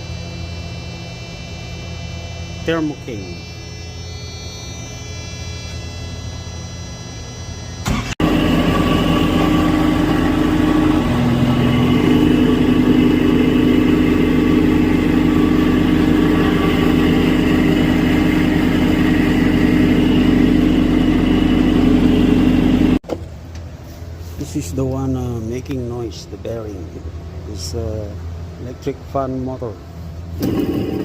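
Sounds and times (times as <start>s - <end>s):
electrical hum: 0.0s - 31.0s
refrigeration unit droning: 0.0s - 31.0s.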